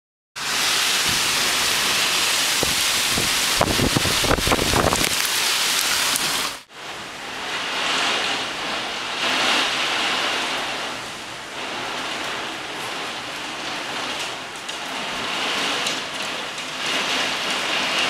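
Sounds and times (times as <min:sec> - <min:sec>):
heavy rain pouring: 0:00.4 - 0:18.0
raindrops clattering close by: 0:00.4 - 0:18.0.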